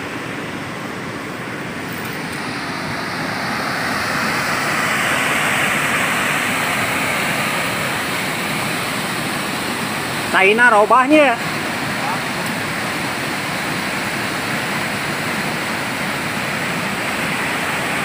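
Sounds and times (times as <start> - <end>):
water rushing over weir: 0.0 - 18.0.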